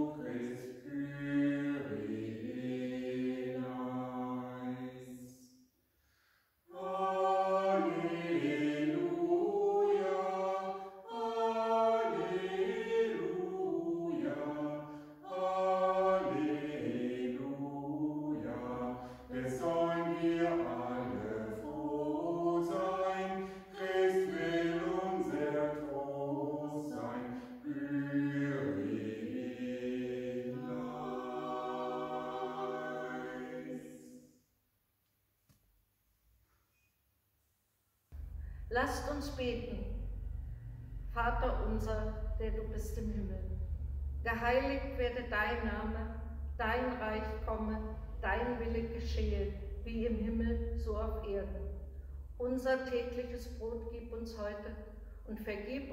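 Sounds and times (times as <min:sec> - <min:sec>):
vocal ensemble singing a cappella: 0:00.0 - 0:05.5, 0:06.7 - 0:34.4, 0:38.2 - 0:55.9.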